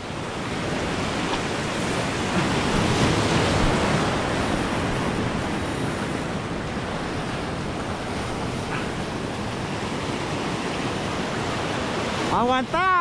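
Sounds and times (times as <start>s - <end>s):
surf breaking on rocks: 0.0s - 13.0s.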